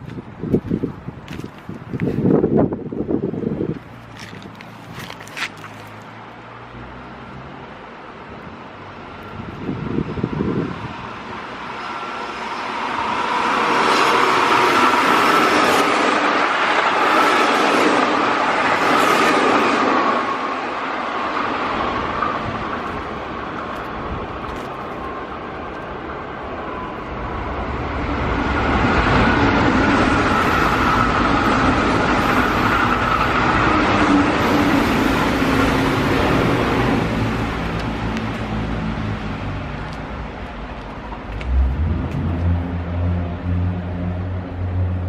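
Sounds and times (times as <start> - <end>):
steady train whine: 6.1 - 45.0
train wheels rumbling on rails: 8.2 - 45.0.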